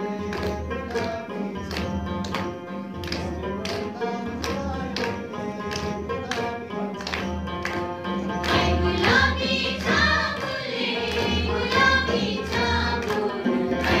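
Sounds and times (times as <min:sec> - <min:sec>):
live instrumental music: 0:00.0 - 0:14.0
group clapping in time: 0:00.2 - 0:14.0.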